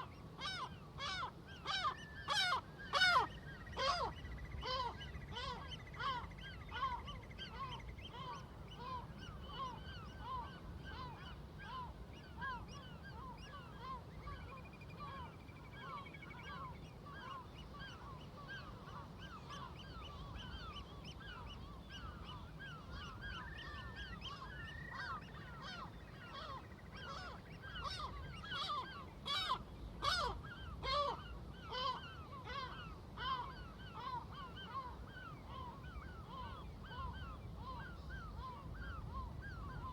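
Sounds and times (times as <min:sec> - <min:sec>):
seagulls calling: 0:00.0 - 0:39.9.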